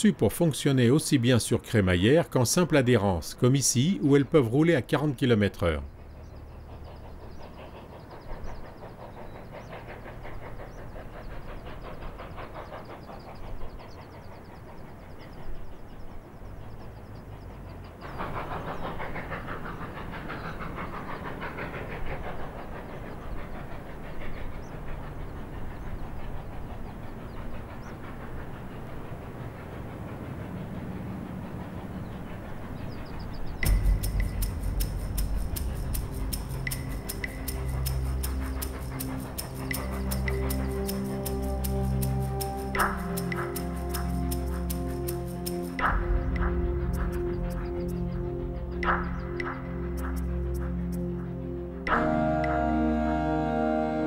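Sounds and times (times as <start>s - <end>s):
steam locomotive running: 0.0s - 54.0s
wheel noise on rails: 0.0s - 54.0s.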